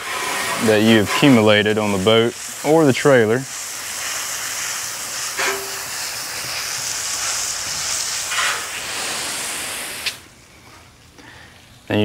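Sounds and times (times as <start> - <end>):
hose spraying water: 0.0 - 10.9
water spattering on wheel: 0.1 - 10.3.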